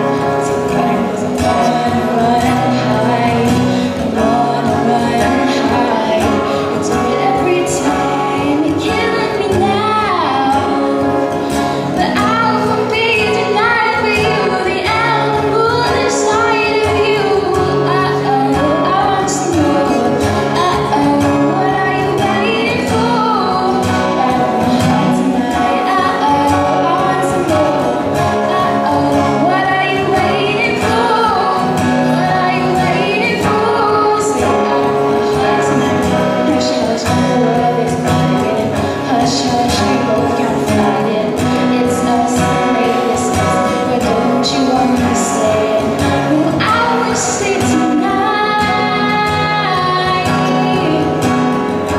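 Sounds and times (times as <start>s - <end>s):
acoustic guitars: 0.0s - 51.9s
girl singing into a microphone: 0.0s - 51.9s.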